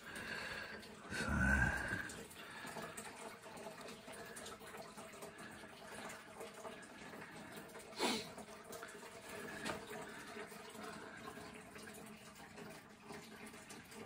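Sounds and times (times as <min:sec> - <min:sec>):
aquarium filter water trickling: 0:00.0 - 0:14.0.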